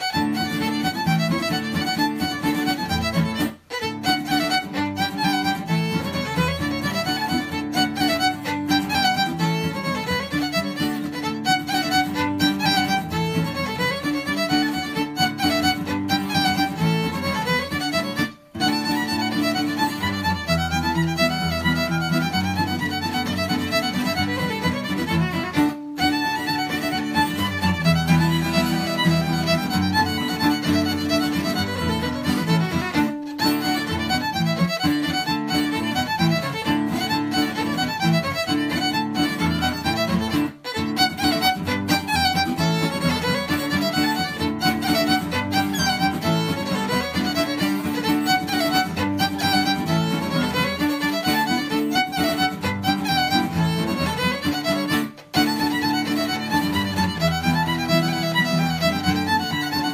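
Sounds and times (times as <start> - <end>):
fiddle playing a fast reel: 0.0 - 59.9.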